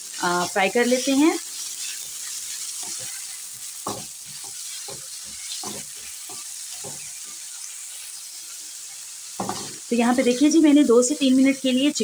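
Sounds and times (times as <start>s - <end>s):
spatula stirring in a pan: 0.0s - 10.6s
food sizzling in a frying pan: 0.0s - 12.0s.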